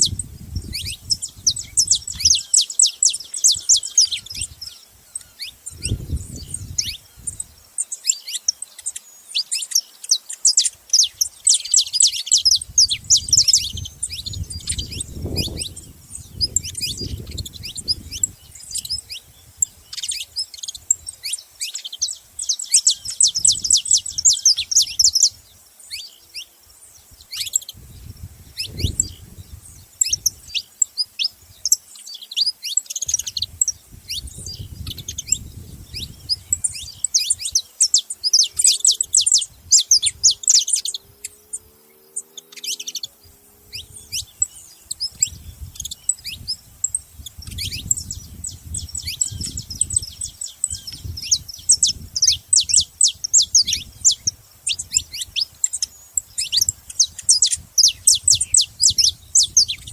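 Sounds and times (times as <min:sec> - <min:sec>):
finch chirping: 0:00.0 - 0:59.9.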